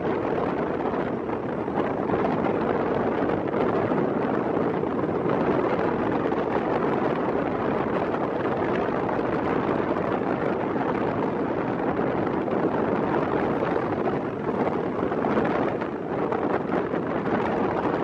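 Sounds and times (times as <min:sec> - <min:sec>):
rough sea: 0:00.0 - 0:18.0
strong wind roaring: 0:00.0 - 0:18.0
wind buffeting microphone: 0:00.0 - 0:18.0.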